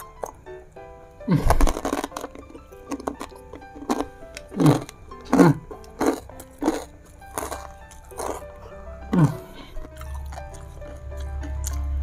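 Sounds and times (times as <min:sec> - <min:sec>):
crunchy food chewing: 0:00.0 - 0:00.5, 0:01.3 - 0:12.0
background music: 0:00.0 - 0:12.0.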